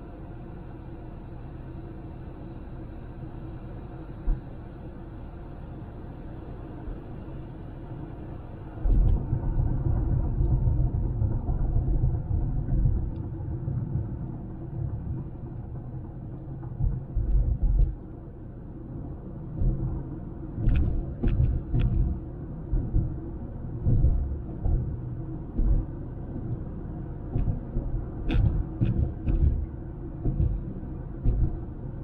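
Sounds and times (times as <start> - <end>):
car road and wind noise: 0.0 - 32.0.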